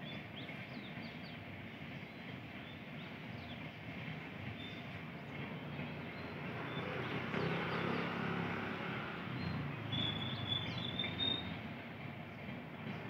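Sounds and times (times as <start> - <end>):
high squeal of train wheels: 0.0 - 13.0
train coaches rumbling on rails: 0.0 - 13.0.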